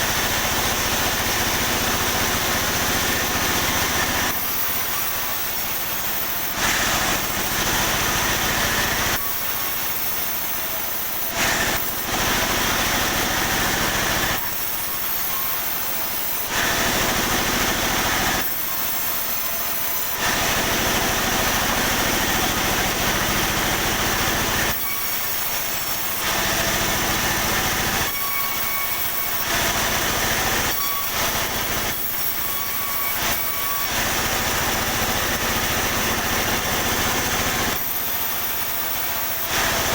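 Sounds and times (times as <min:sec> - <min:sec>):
saw blade running free: 0:00.0 - 0:39.9
saw cutting timber: 0:00.0 - 0:39.9.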